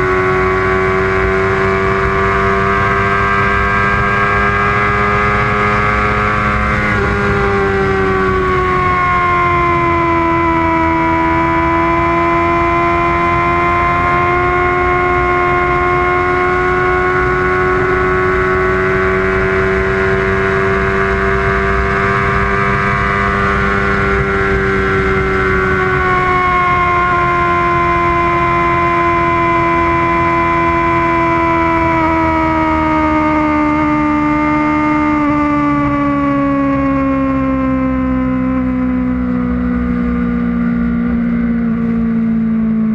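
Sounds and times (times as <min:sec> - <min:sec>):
motorcycle engine high whine: 0:00.0 - 0:42.9
wind rumble: 0:00.0 - 0:42.9.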